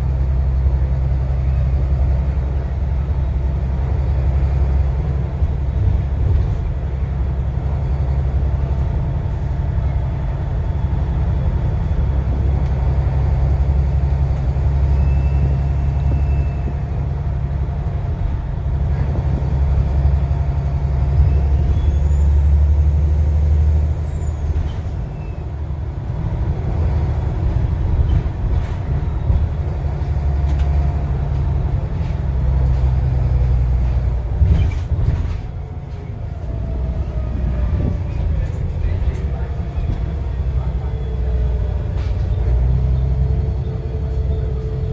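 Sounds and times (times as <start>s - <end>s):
bus diesel engine rumble: 0.0s - 44.9s.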